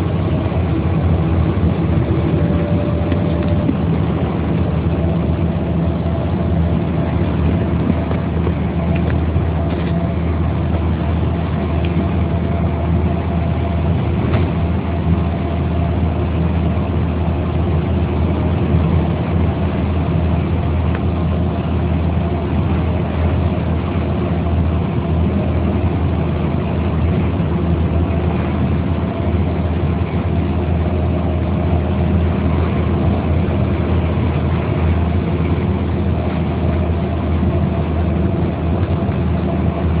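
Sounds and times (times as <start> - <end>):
bus engine droning: 0.0 - 40.0.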